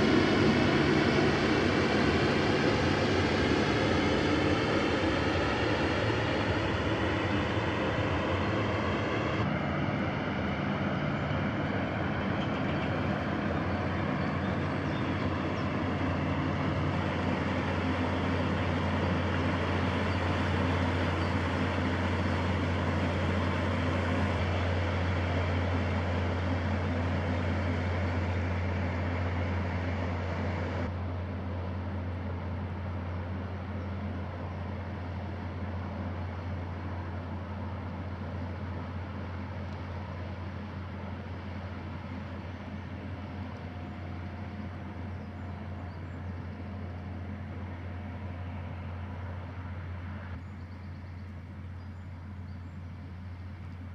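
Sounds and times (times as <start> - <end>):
barge engine droning: 0.0 - 53.9
water rushing along hull: 0.0 - 53.9.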